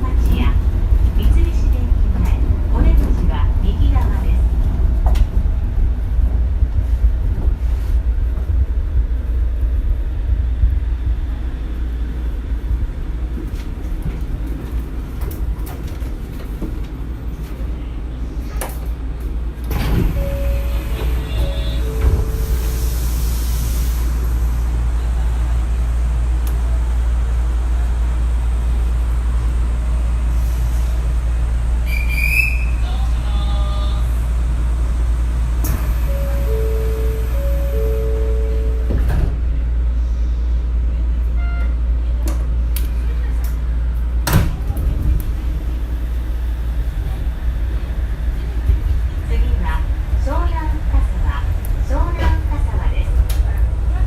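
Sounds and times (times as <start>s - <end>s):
monorail car low rumble: 0.0s - 54.0s
travel noise: 0.0s - 54.0s.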